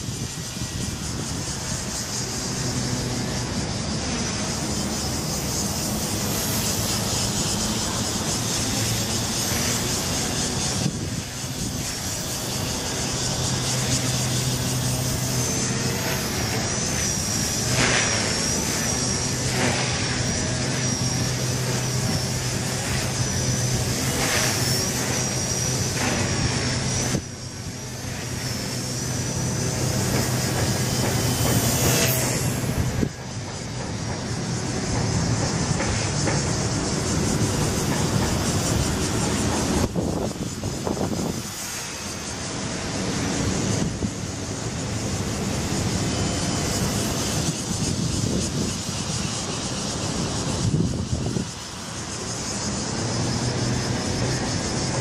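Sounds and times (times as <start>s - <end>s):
rc helicopter motor whine: 0.0s - 55.0s.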